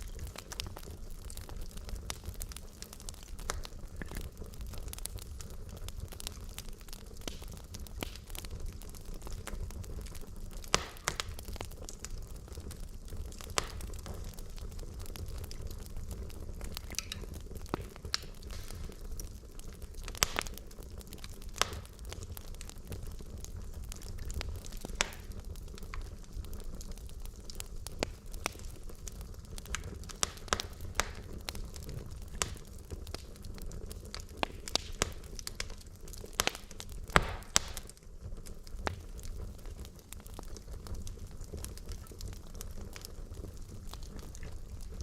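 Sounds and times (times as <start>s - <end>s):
burning logs crackling and popping: 0.0s - 45.0s
fire low rumble: 0.0s - 45.0s.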